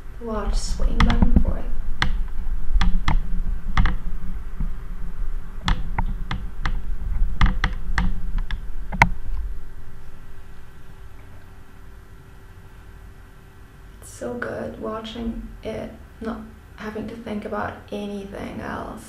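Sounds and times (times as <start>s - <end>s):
low rumble: 0.0s - 17.6s.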